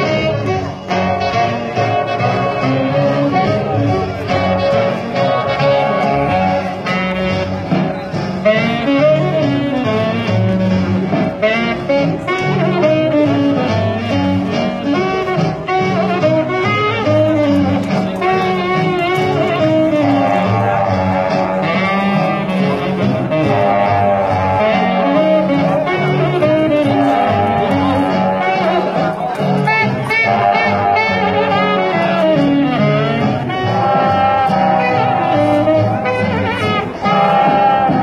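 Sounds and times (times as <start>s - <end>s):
saxophone and brass melody: 0.0s - 38.0s
swing jazz music: 0.0s - 38.0s.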